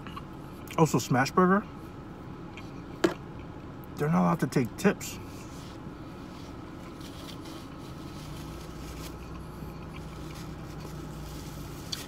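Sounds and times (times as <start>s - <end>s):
car air conditioning and engine hum: 0.0s - 12.0s.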